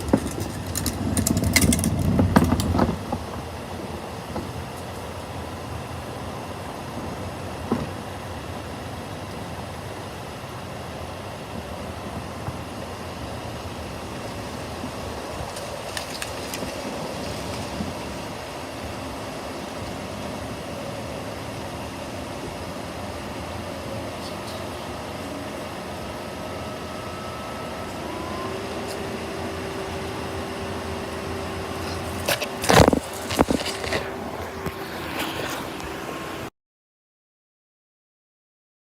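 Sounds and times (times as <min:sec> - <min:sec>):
car engine idling: 0:00.0 - 0:36.5.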